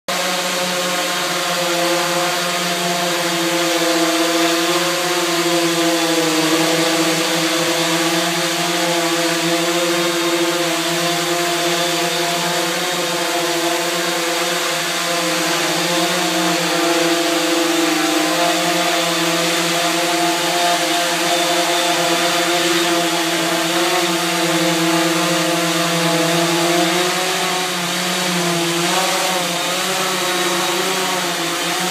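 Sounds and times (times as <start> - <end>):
quadcopter buzzing drone: 0.1 - 31.9.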